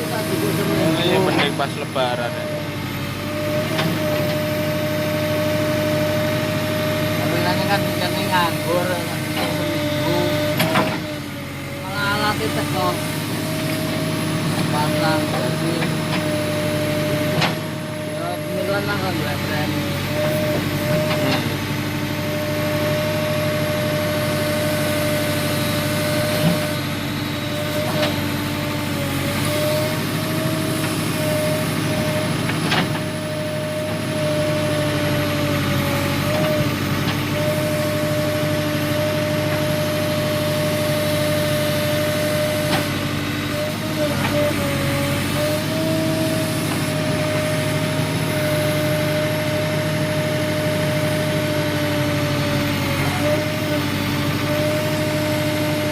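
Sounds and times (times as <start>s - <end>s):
diesel engine running: 0.0s - 55.9s
engine whine: 0.0s - 55.9s.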